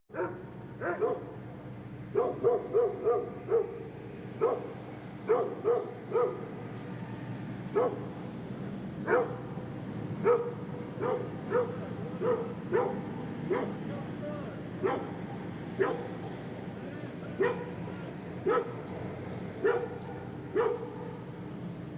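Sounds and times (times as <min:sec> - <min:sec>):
distant dogs barking: 0:00.1 - 0:07.0, 0:07.6 - 0:21.9
low background hum: 0:00.1 - 0:21.9.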